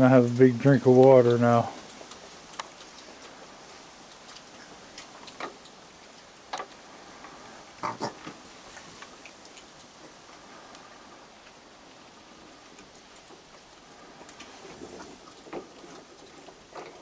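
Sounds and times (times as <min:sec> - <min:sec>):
rain hissing: 0:00.0 - 0:16.8
animal lapping water: 0:00.0 - 0:17.0.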